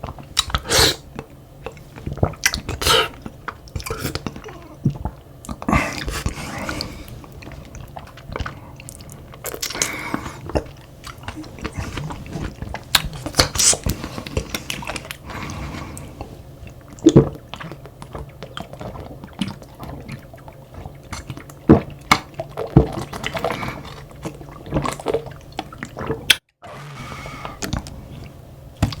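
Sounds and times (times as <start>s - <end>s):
wet chewing and slurping: 0.0s - 29.0s.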